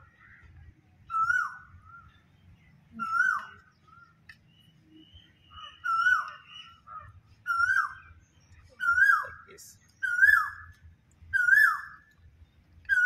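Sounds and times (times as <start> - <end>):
bird calling: 0.0 - 12.2.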